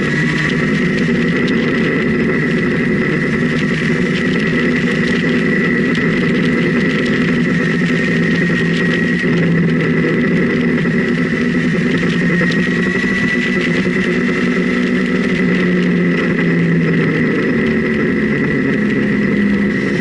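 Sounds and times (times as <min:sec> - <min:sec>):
motorcycle engine cruising: 0:00.0 - 0:20.0
steady high whine: 0:00.0 - 0:20.0
wind noise: 0:00.0 - 0:20.0.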